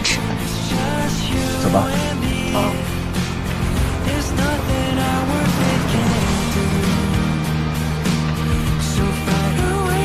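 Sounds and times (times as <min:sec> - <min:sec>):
pop song: 0:00.0 - 0:10.0.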